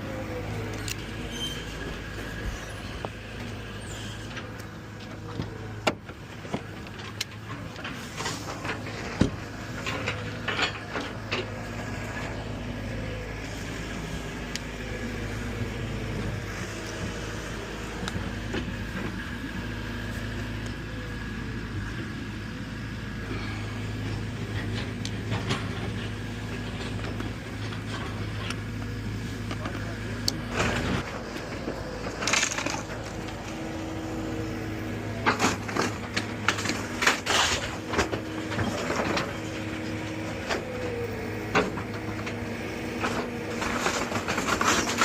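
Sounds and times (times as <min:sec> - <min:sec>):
engine running: 0:00.0 - 0:45.0.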